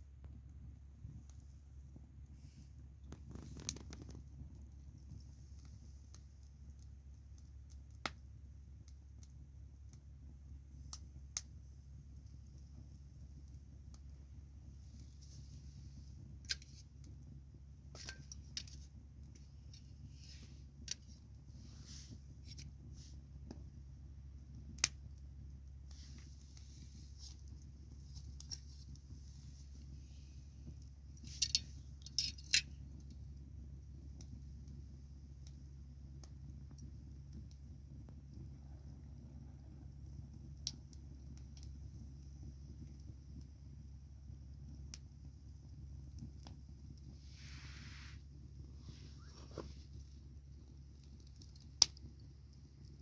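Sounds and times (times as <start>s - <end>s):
bonfire crackling: 0.0s - 53.0s.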